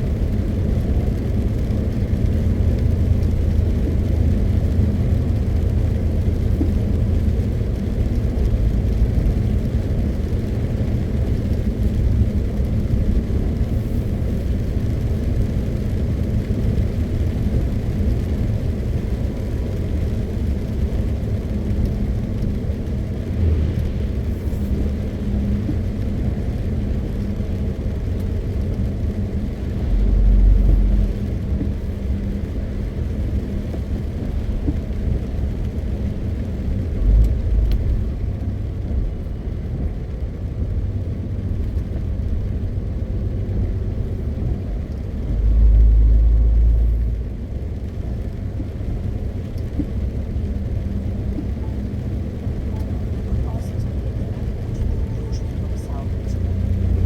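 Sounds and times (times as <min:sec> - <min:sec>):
deep low engine surges: 0:00.0 - 0:57.0
truck diesel engine rumbling: 0:00.0 - 0:57.0.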